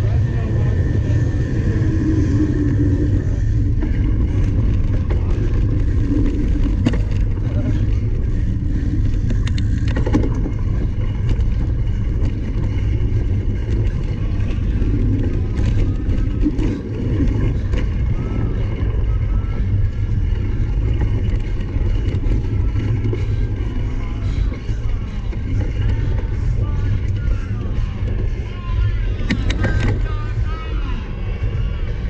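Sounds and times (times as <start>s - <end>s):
wind rumble on microphone: 0.0s - 32.0s
bike clicks and knocks: 3.8s - 30.6s.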